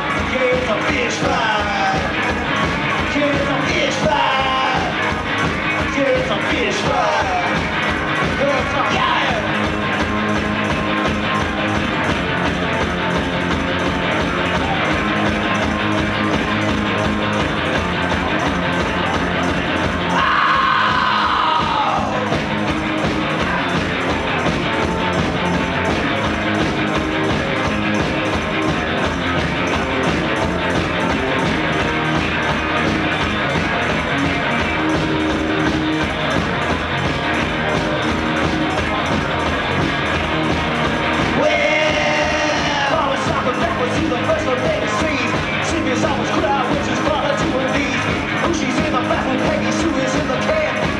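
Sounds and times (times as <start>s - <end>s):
garage rock band playing: 0.0s - 50.9s.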